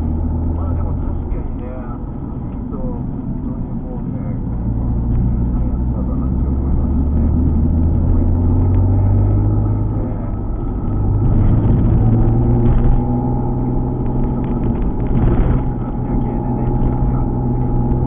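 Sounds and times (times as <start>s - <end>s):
car engine pulling: 0.0s - 18.0s.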